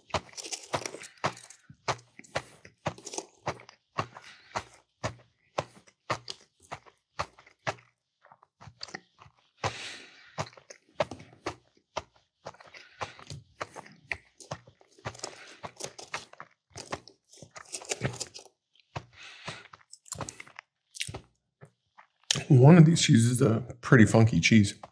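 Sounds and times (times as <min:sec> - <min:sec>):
person chewing food: 0:00.0 - 0:22.6.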